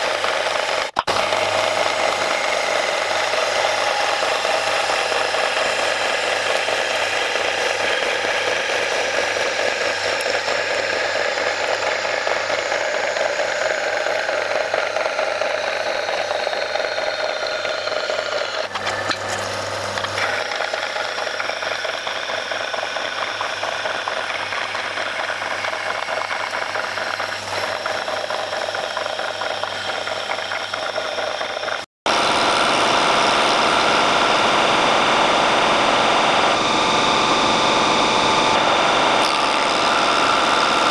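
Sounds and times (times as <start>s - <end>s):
bandsaw cutting metal: 0.0s - 40.9s
metal lathe machining: 0.0s - 40.9s.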